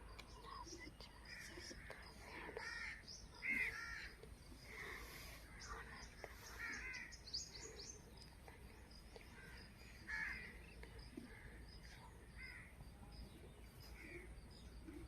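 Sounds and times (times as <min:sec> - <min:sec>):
faint bird calls: 0:00.0 - 0:15.0.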